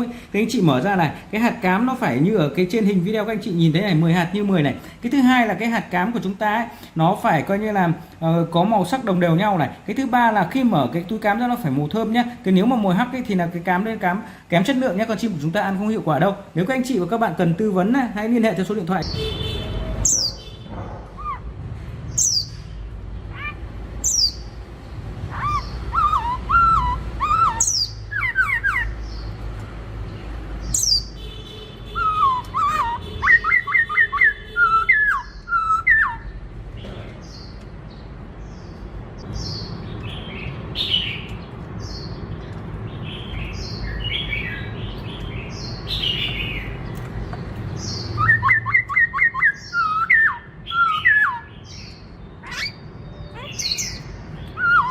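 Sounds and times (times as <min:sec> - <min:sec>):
bird singing: 0:00.0 - 0:29.5, 0:30.1 - 0:54.9.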